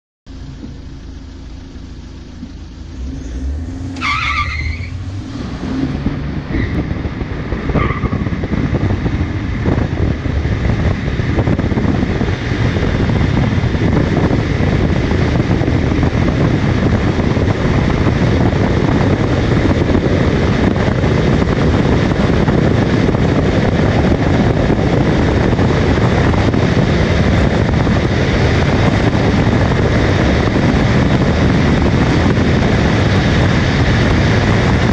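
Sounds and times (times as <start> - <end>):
car accelerating hard: 2.4 - 34.9.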